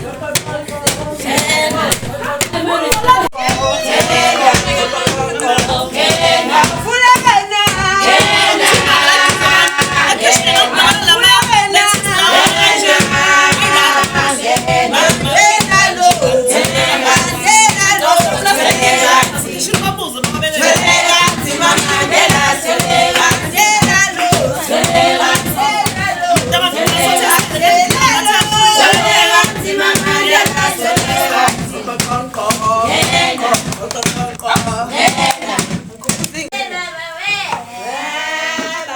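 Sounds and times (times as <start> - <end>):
group of voices singing: 0.0 - 38.9
hand claps: 0.3 - 36.4.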